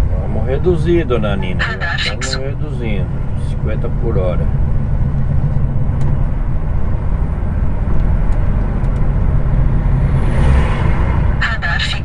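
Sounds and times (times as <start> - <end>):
road noise: 0.0 - 12.0
truck diesel engine droning: 0.0 - 12.0.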